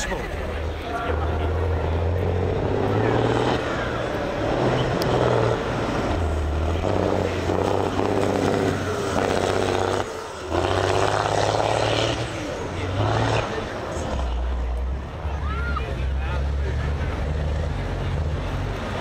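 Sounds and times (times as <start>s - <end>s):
truck diesel engine revving: 0.0s - 19.0s.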